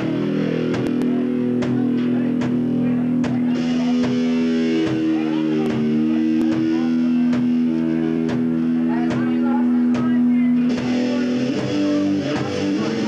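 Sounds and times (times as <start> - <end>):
electric guitar chords: 0.0 - 13.0
steady drum beat: 0.0 - 13.0.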